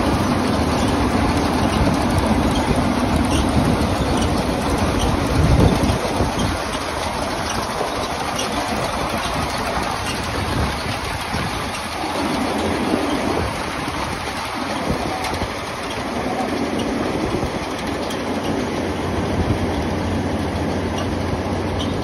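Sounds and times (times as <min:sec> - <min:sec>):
conveyor clatter: 0:00.0 - 0:22.0
tractor engine and machinery noise: 0:00.0 - 0:22.0.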